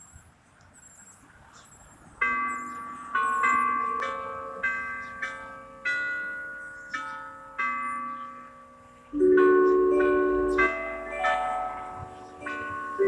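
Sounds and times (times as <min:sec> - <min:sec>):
church bells striking a tune: 0:02.2 - 0:13.0.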